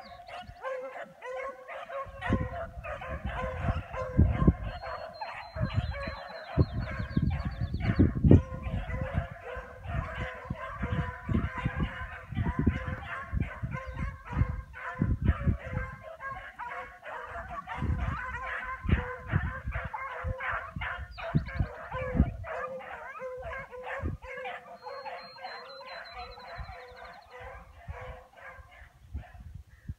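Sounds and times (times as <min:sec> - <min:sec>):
hounds baying: 0:00.0 - 0:29.4.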